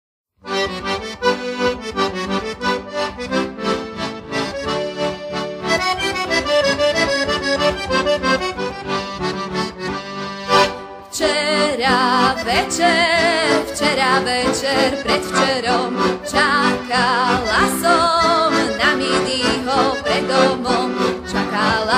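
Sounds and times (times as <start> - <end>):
button accordion folk tune: 0.4 - 21.9.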